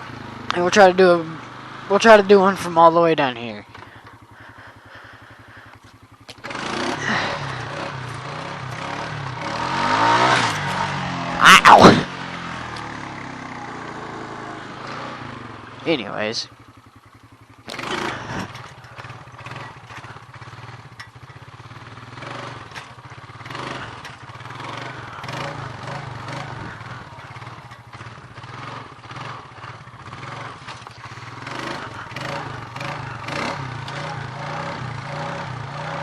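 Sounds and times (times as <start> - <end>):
quad bike engine revving: 0.0 - 36.0.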